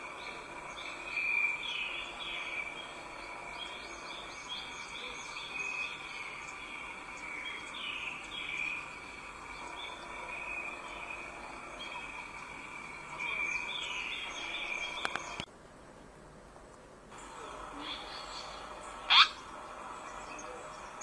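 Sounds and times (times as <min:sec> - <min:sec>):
small birds chirping: 0:00.0 - 0:15.5, 0:17.1 - 0:21.0
steady high hum: 0:00.0 - 0:21.0.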